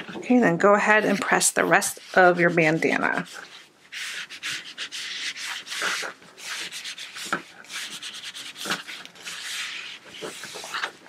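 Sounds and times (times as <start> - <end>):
iron rubbing over fabric: 0.8 - 10.9.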